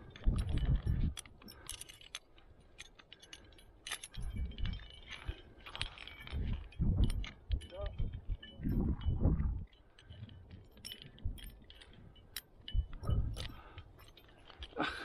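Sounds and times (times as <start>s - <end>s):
metal climbing gear jingling: 0.0s - 15.0s.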